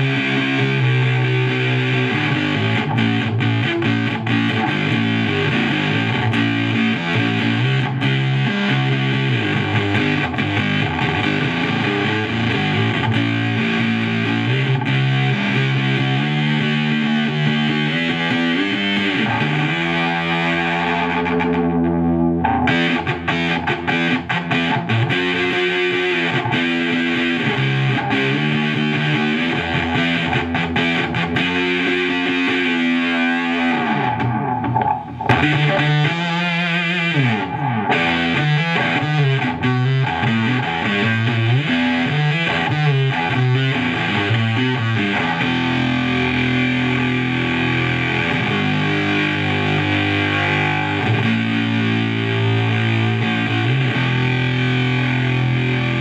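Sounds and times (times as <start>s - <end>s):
fuzz-distorted electric guitar: 0.0s - 56.0s.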